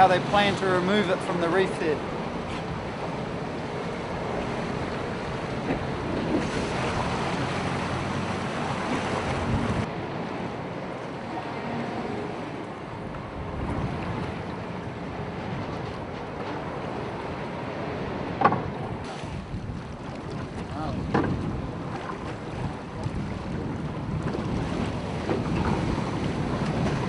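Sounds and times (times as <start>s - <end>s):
boat motor running: 0.0s - 27.0s
water splashing against hull: 0.0s - 27.0s
wind rushing over microphone: 0.0s - 27.0s.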